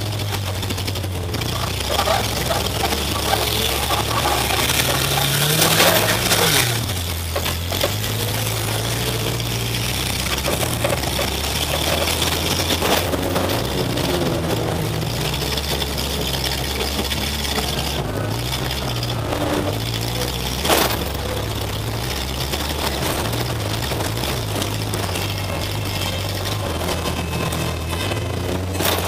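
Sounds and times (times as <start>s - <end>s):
car engine revving: 0.0s - 29.0s
clattering and knocks from car body: 0.0s - 29.0s.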